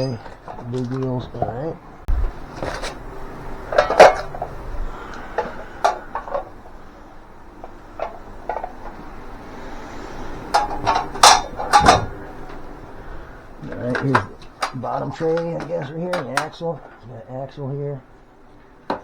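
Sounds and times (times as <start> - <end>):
metal parts clanking and knocking: 0.0 - 19.0.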